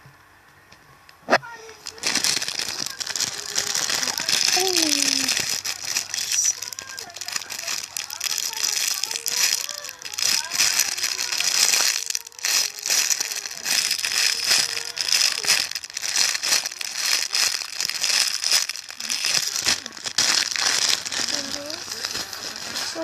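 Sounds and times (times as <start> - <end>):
plastic crinkling: 1.4 - 23.0.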